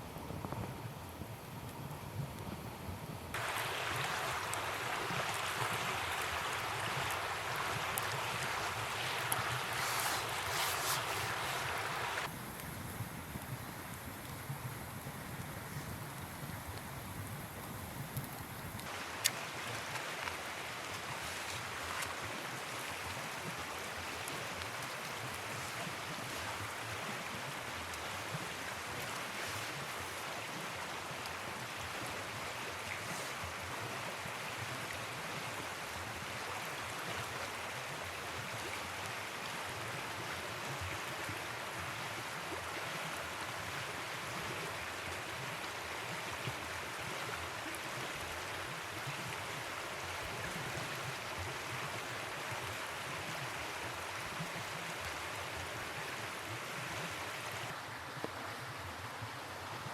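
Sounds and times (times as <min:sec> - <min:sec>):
river water rushing: 0:03.4 - 0:12.3, 0:18.8 - 0:59.9.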